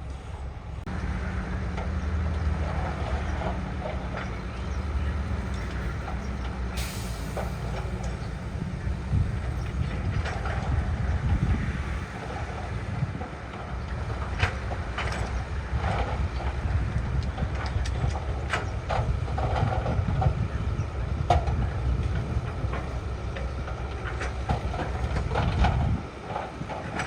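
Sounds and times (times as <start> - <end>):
diesel engine rumbling: 0.0 - 27.0
steel tracks clanking: 0.1 - 27.0.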